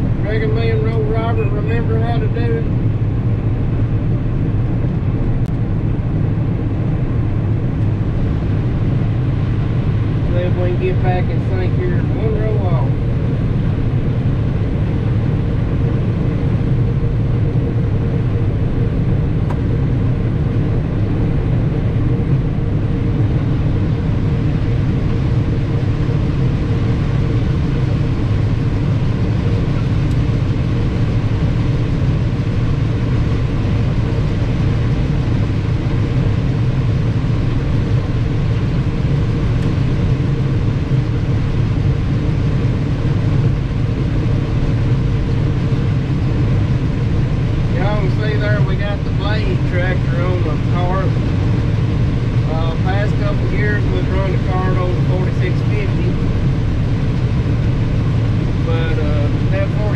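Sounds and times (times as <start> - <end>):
harvest machinery engine rumble: 0.0 - 59.9.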